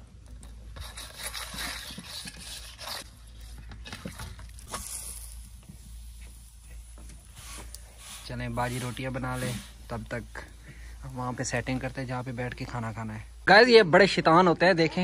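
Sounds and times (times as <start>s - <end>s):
dough squelching in steel bowl: 0.6s - 13.2s.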